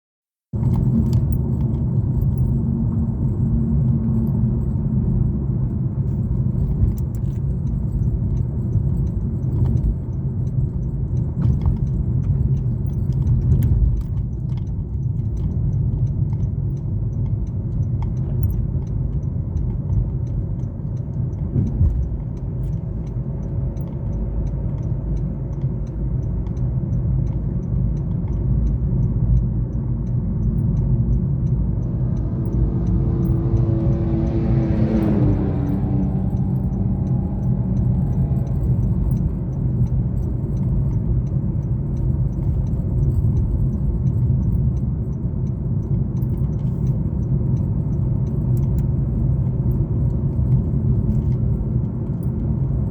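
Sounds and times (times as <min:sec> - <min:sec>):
car engine and road rumble: 0:00.5 - 0:52.9.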